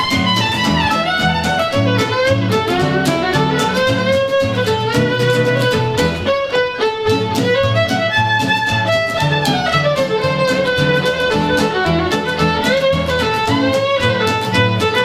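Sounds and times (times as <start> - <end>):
fiddle playing swing melody: 0.0 - 15.0
strummed acoustic guitar: 0.0 - 15.0.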